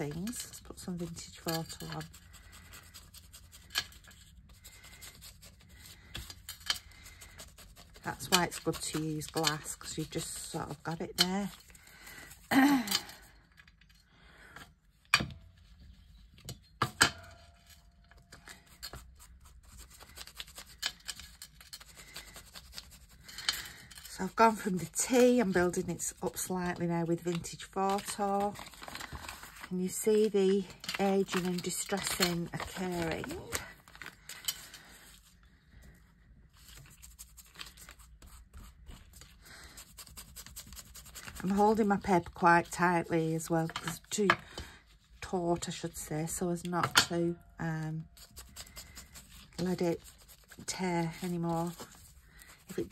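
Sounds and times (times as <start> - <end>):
tool scraping over paper: 0.0 - 12.5, 17.3 - 35.4, 36.6 - 44.6, 47.9 - 52.9.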